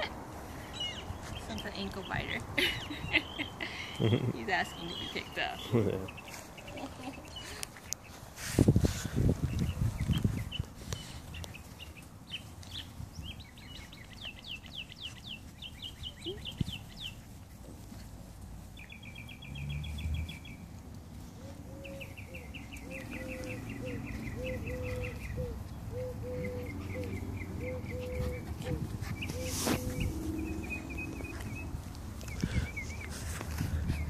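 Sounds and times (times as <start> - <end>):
birds chirping trills: 0.0 - 8.3, 9.4 - 18.0, 18.6 - 34.0.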